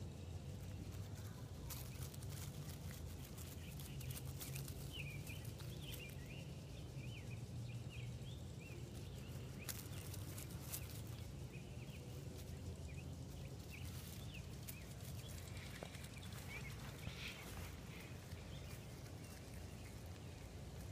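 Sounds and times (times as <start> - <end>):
low steady hum: 0.0 - 20.9
small birds chirping: 0.0 - 20.9.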